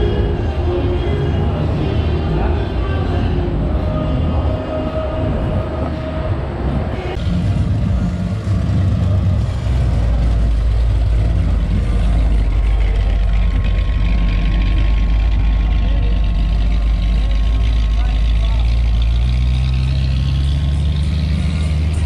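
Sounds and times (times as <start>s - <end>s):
voices in background: 0.0s - 7.2s, 11.2s - 22.0s
vehicle engine idling: 0.0s - 22.0s.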